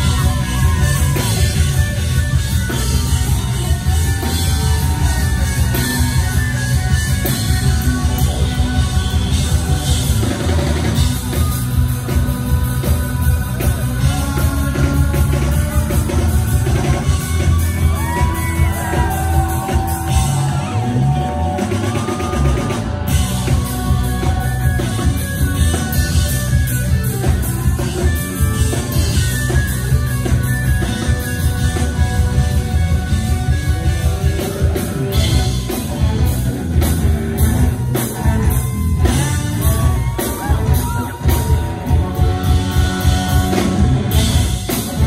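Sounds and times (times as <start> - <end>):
bass guitar: 0.0 - 45.0
drums and cymbals: 0.0 - 45.0
electric guitar: 0.0 - 45.0.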